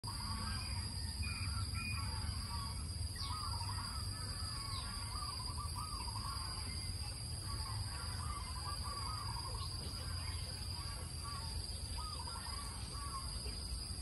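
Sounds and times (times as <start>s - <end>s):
birds chirping and warbling: 0.0s - 14.0s.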